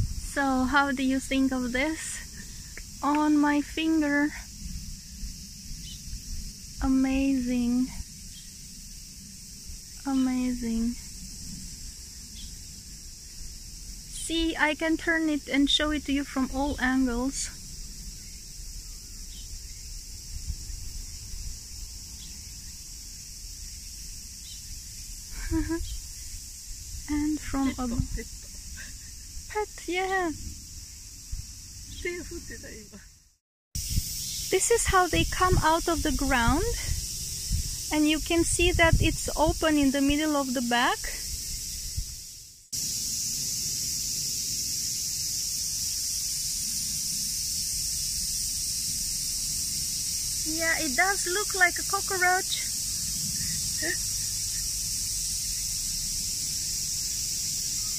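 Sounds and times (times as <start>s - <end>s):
cicadas chorus: 0.0s - 57.9s.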